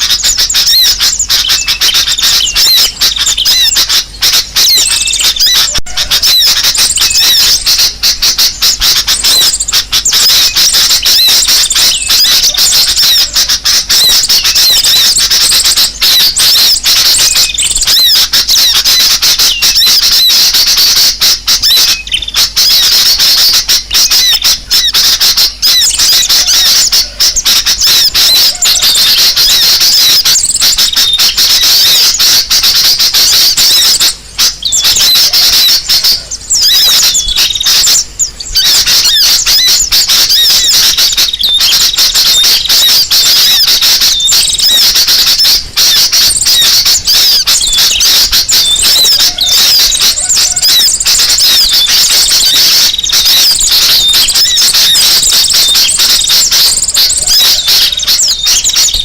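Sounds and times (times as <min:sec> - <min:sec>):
many small birds chirping: 0:00.0 - 0:59.0.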